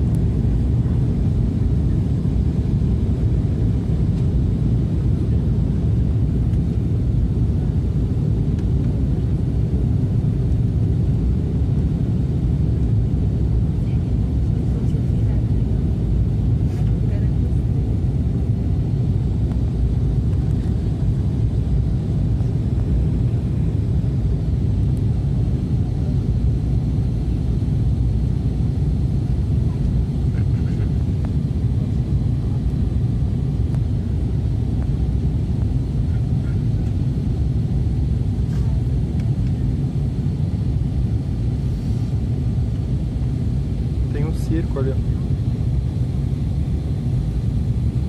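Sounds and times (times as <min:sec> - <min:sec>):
airliner engine rumble: 0:00.0 - 0:48.0
faint high hum: 0:08.5 - 0:48.0.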